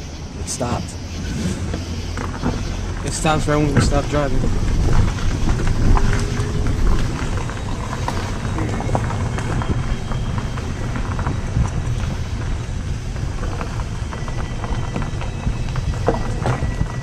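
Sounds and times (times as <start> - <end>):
car engine rumble: 0.0 - 17.0
high whistling tones: 0.5 - 17.0.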